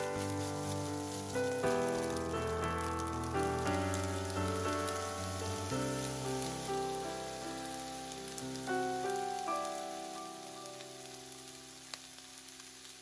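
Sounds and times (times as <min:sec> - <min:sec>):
background music of held notes: 0:00.0 - 0:12.7
rice sizzling in a pan: 0:00.0 - 0:13.0.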